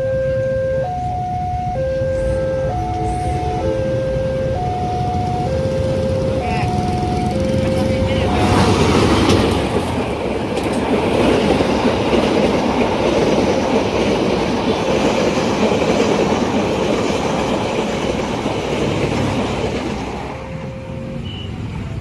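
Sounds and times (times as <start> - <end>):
train wheels rumbling on rails: 0.8 - 22.0.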